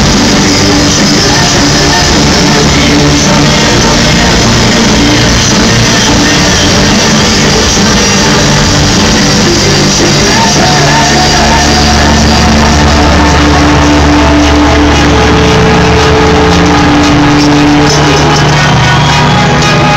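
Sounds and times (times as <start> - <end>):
live rock band with synths: 0.0 - 19.9.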